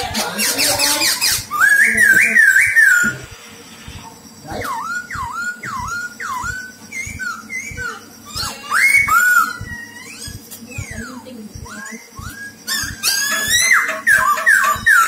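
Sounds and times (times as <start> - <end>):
bird singing whistled notes: 0.4 - 3.3, 4.0 - 15.0.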